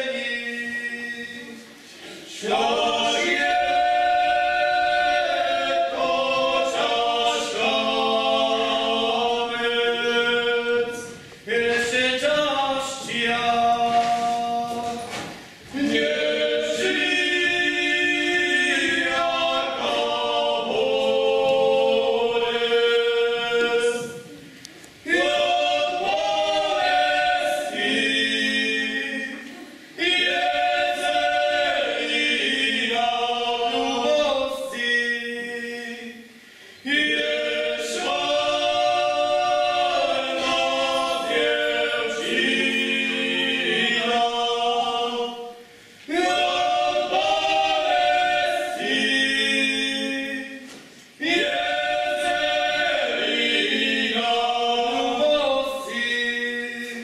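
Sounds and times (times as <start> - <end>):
group singing unaccompanied: 0.0 - 57.0.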